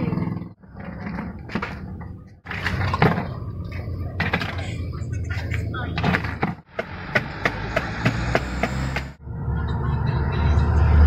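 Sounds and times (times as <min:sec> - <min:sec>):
passing vehicle rumble: 0:00.0 - 0:11.0.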